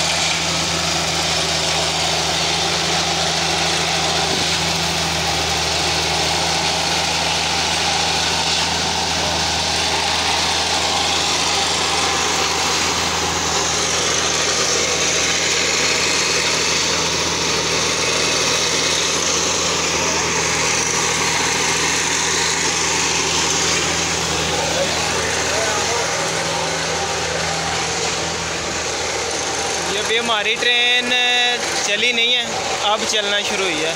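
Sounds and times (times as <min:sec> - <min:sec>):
diesel machine hum: 0:00.0 - 0:33.9.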